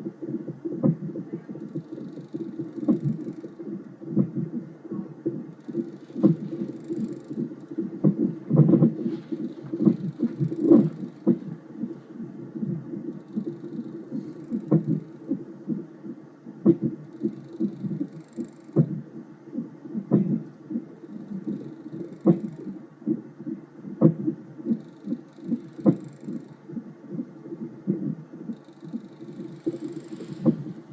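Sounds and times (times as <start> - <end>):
fast whooshing heartbeat pulse: 0.0 - 18.2, 18.8 - 30.9.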